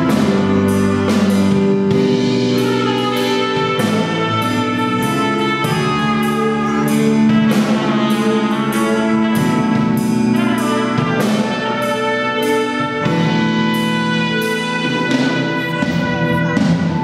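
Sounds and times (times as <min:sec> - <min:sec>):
live band playing a carol: 0:00.0 - 0:17.0.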